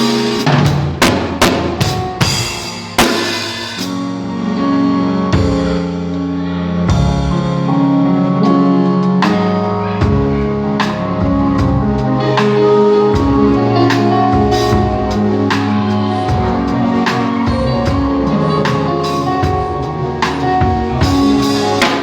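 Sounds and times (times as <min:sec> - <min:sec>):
drum kit hits: 0:00.0 - 0:04.2, 0:06.9 - 0:07.7, 0:09.2 - 0:22.0
sustained band chords: 0:00.0 - 0:22.0.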